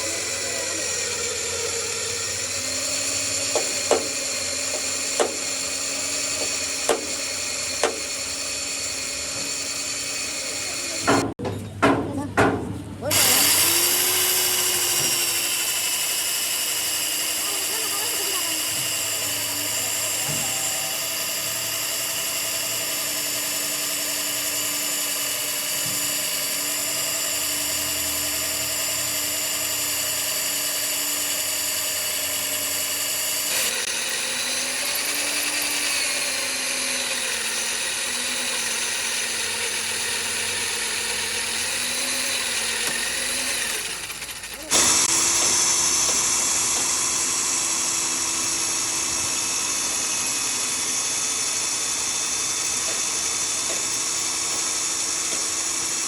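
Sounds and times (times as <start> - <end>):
electric power tool whining: 0.0 - 11.4, 13.0 - 56.0.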